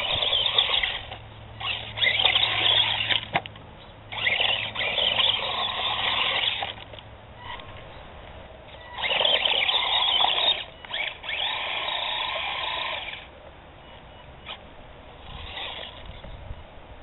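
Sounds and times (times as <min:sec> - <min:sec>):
rc truck motor whining: 0:00.0 - 0:03.5, 0:04.1 - 0:07.9, 0:08.7 - 0:13.3, 0:14.4 - 0:16.4.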